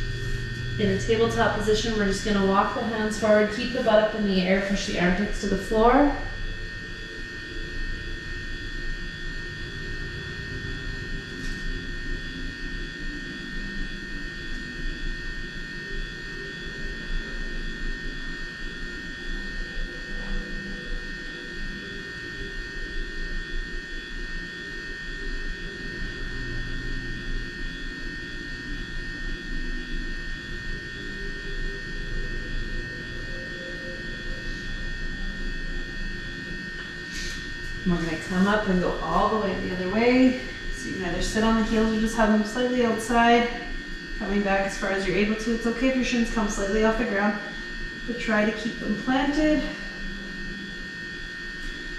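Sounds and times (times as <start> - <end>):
high-pitched whine: 0.0 - 51.9
steady whir and low hum: 0.0 - 51.9.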